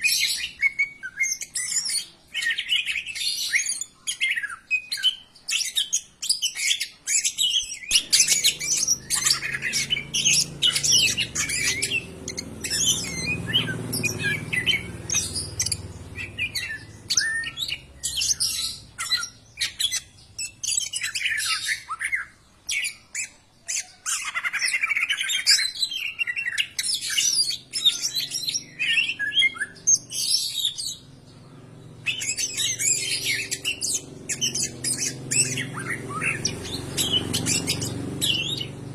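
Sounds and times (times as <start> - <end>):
bird singing varied notes: 0.0 - 38.9.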